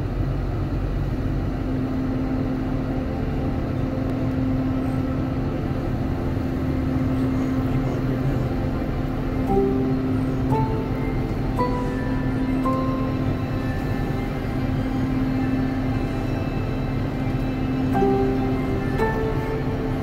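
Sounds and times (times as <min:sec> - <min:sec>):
low vehicle rumble: 0:00.0 - 0:20.0
steady hum: 0:00.0 - 0:20.0.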